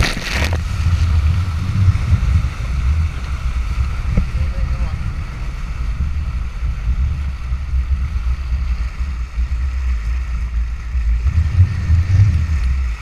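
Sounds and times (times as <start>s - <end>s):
water rushing past hulls: 0.0s - 13.0s
wind buffeting microphone: 0.0s - 13.0s.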